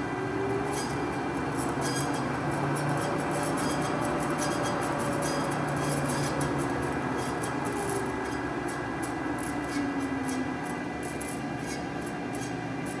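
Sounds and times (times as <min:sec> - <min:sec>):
band saw humming: 0:00.0 - 0:13.0.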